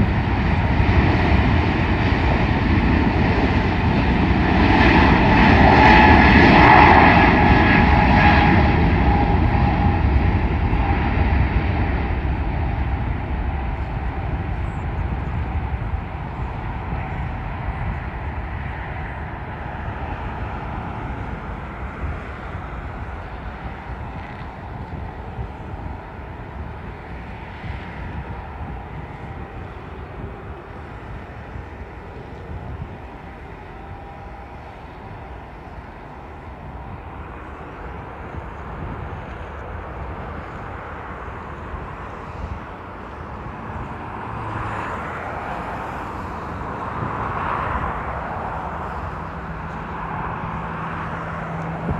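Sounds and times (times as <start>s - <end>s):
jet airliner engine roar: 0.0s - 51.9s.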